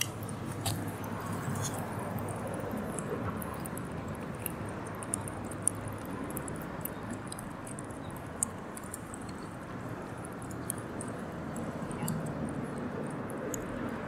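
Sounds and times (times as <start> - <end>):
cats lapping milk: 0.2 - 14.0.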